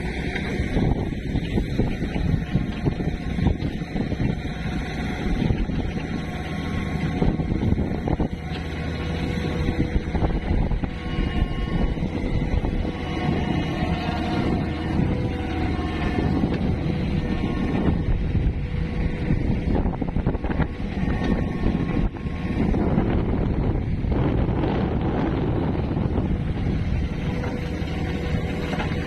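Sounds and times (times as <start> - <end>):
diesel engine running: 0.0 - 29.0
faint wavering whines: 0.0 - 29.0.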